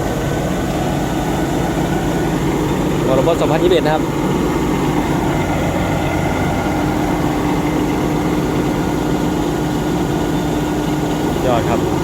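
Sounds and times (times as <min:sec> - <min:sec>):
combine harvester engine running: 0:00.0 - 0:12.0
steady hum: 0:00.0 - 0:12.0.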